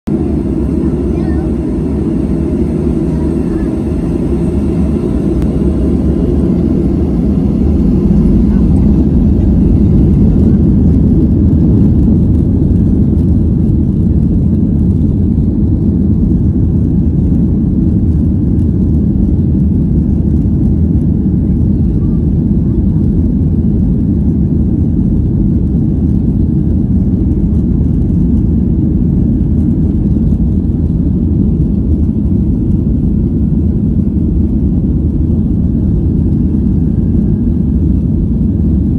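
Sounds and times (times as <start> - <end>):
jet engine drone in cabin: 0.1 - 38.9.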